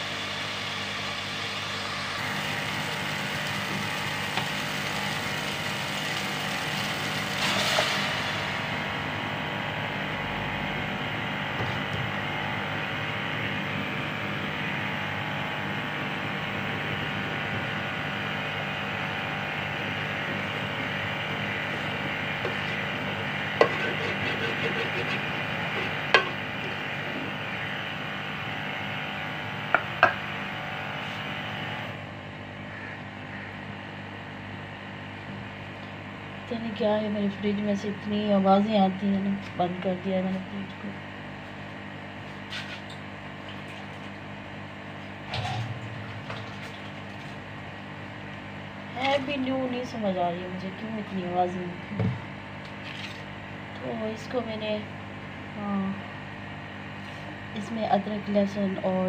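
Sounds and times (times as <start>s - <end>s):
refrigerator hum and rattle: 0.0s - 59.0s.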